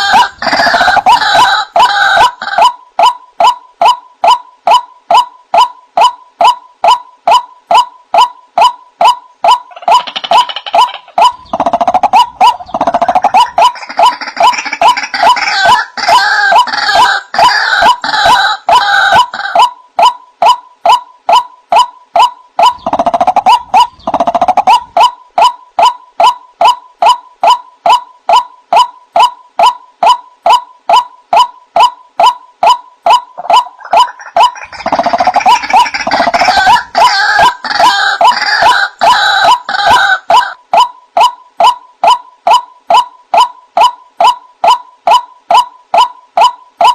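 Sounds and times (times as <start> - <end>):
waterhen calling kwak notes: 0.0 - 46.9.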